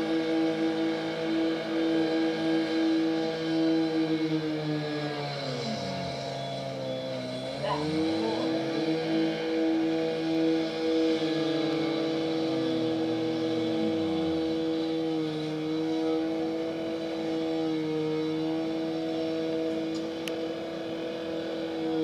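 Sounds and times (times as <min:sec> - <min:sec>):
engine droning hum: 0:00.0 - 0:22.0
lower engine tone: 0:00.0 - 0:22.0.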